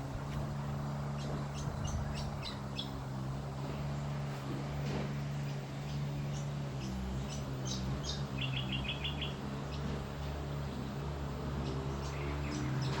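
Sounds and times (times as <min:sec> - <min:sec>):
small birds chirping: 0:00.0 - 0:04.5, 0:05.2 - 0:13.0
steady low hum: 0:00.0 - 0:13.0.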